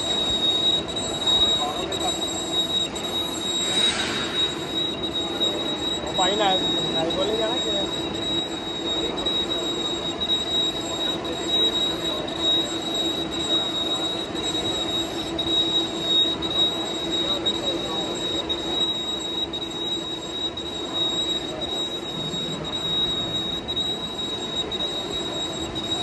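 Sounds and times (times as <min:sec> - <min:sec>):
metal lathe running: 0:00.0 - 0:26.0.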